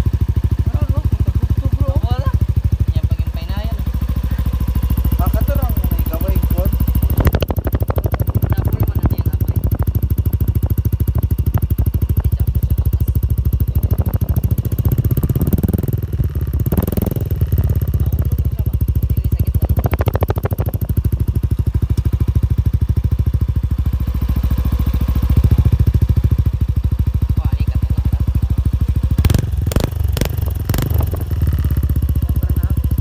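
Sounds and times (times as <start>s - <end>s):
scooter engine idling: 0.0s - 33.0s.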